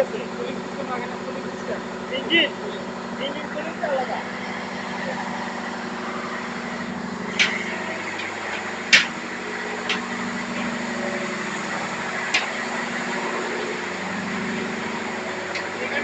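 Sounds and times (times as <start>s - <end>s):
engine-room machinery humming: 0.0s - 16.0s.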